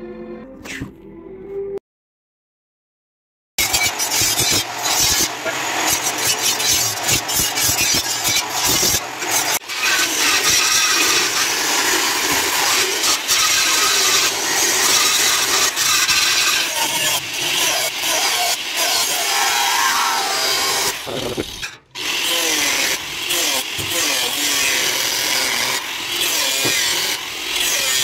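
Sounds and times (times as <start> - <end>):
angle grinder cutting steel: 3.6 - 28.0.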